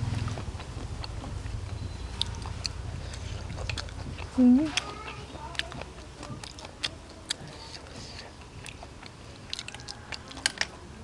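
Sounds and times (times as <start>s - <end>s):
chewing crunchy food: 0.0s - 11.0s.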